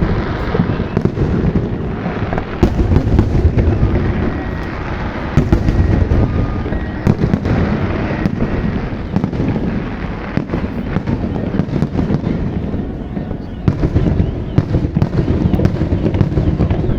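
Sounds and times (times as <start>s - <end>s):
fireworks bangs and crackles: 0.0s - 16.9s
fireworks booming: 0.0s - 16.9s.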